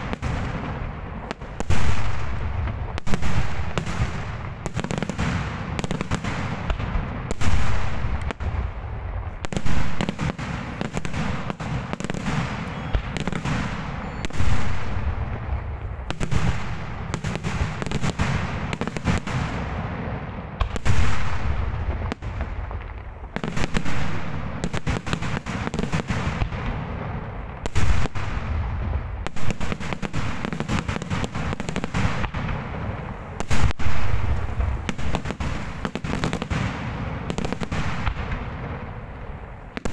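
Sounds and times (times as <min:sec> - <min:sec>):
fireworks bursts and cracks: 0:00.0 - 0:39.9
heavy fireworks bangs: 0:00.0 - 0:39.9.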